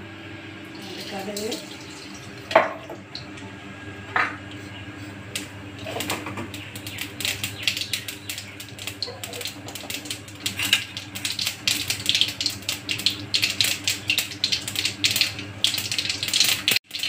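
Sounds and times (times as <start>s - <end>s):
spices crackling in hot oil: 0.7s - 3.4s, 5.2s - 17.0s.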